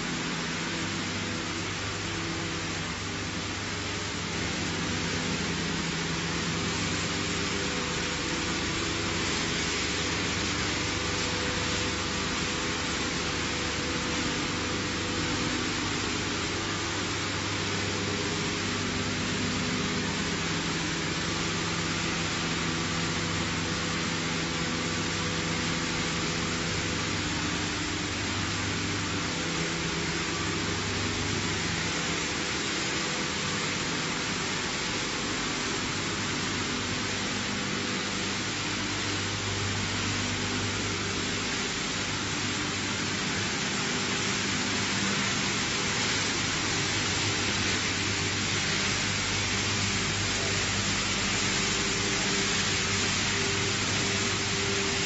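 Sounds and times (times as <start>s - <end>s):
broad even hiss: 0.0s - 55.0s
machinery humming and droning: 0.0s - 55.0s.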